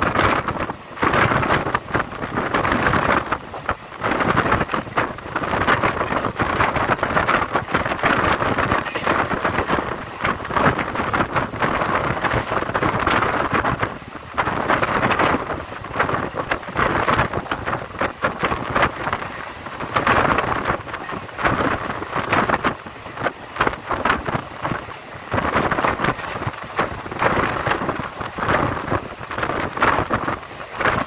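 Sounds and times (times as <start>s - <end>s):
train running on rails: 0.0s - 31.0s
wind buffeting the microphone: 0.0s - 31.0s.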